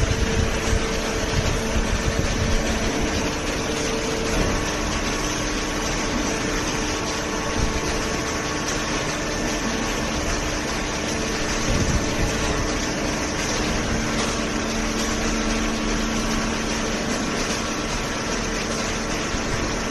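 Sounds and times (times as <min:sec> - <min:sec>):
baling press motor humming: 0:00.0 - 0:19.9.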